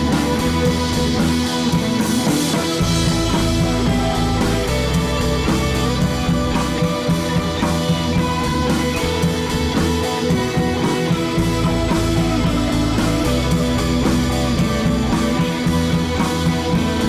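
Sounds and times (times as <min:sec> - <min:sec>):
rock music with guitar and drums: 0:00.0 - 0:17.0.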